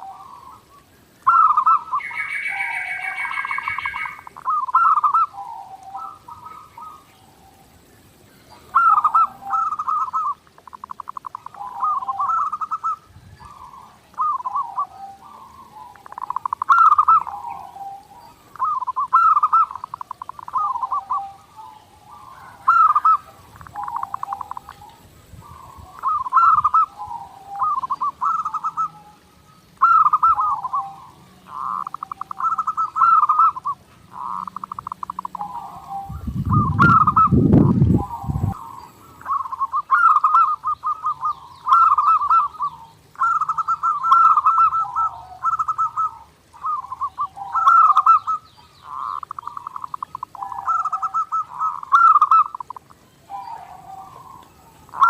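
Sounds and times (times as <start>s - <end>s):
dove trilled cooing: 0.0s - 55.0s.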